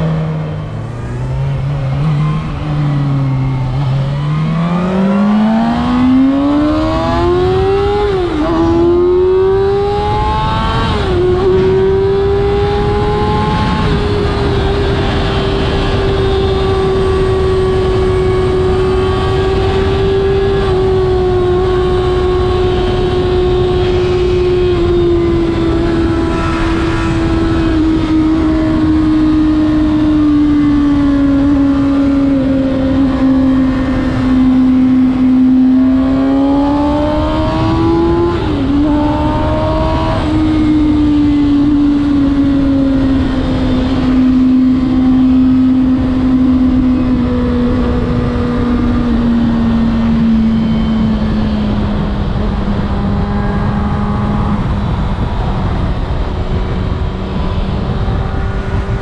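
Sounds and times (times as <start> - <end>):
wind noise: 0.0 - 59.0.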